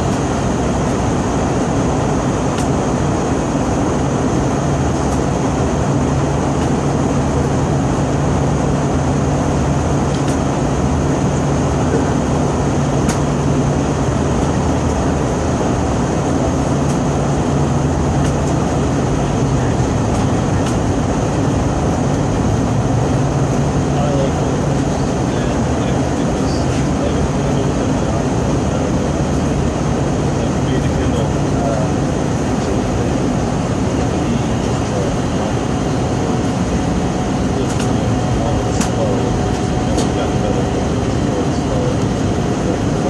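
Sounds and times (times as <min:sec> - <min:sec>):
jet engines droning: 0:00.0 - 0:43.0.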